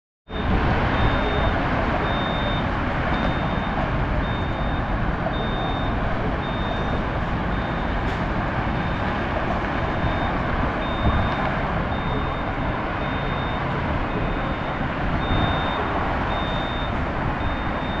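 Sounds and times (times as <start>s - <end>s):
bus engines and traffic rumble: 0.3s - 18.0s
reversing alarm beeping: 0.3s - 18.0s.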